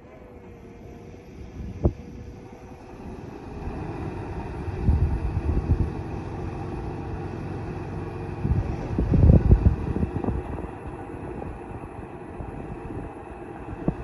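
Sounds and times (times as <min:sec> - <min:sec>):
bulldozer diesel engine under load: 0:00.0 - 0:14.0.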